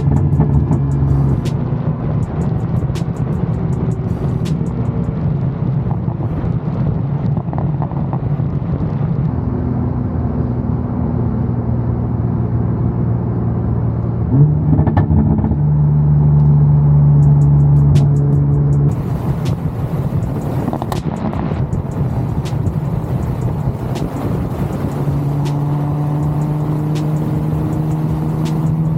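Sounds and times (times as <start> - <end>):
car engine accelerating: 0.0 - 28.9.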